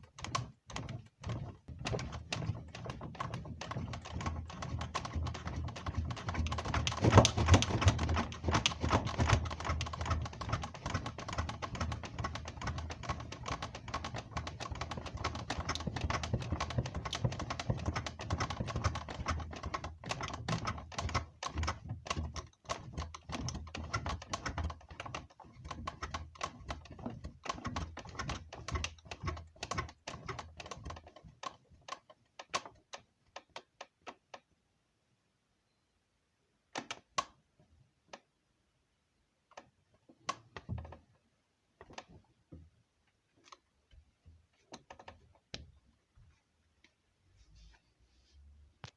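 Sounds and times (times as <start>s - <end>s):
bed creaking and clicking: 0.0s - 34.6s, 36.6s - 38.4s, 39.3s - 47.1s.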